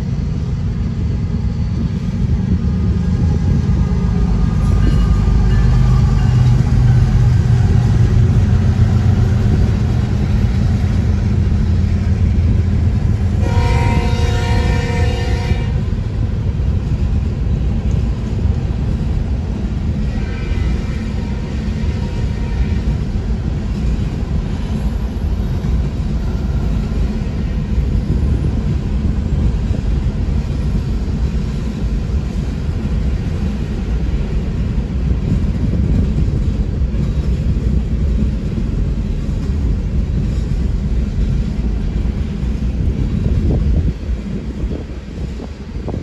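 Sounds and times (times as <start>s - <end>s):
freight cars rumbling on rail: 0.0s - 46.0s.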